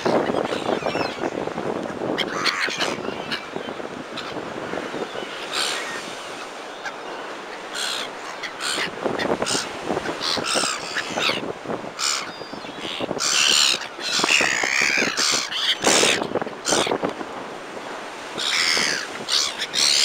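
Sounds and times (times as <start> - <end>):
gulls calling: 0.0 - 20.0
waves washing against sea wall: 0.0 - 20.0.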